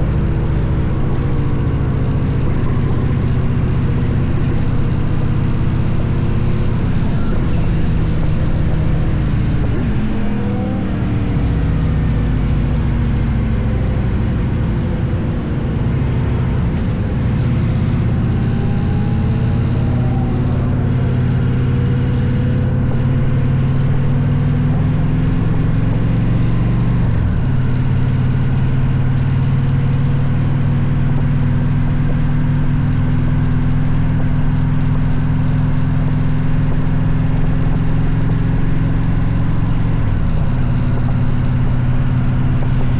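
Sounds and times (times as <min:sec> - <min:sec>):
motorcycle engine cruising: 0:00.0 - 0:42.9.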